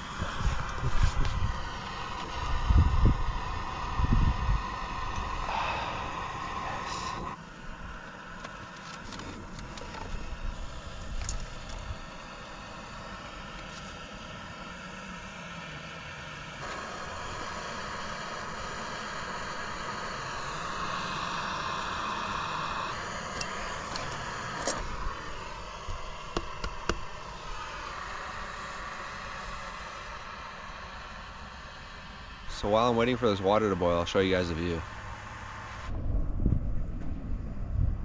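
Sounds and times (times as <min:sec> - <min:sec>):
steady background hiss: 0:00.0 - 0:35.9.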